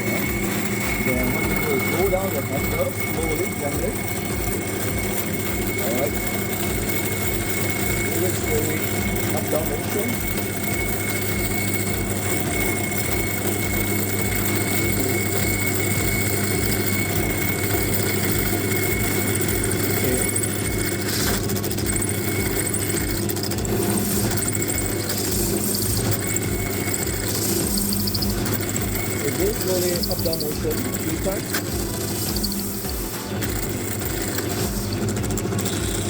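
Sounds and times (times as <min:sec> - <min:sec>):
bench drill cutting acrylic: 0:00.0 - 0:36.0.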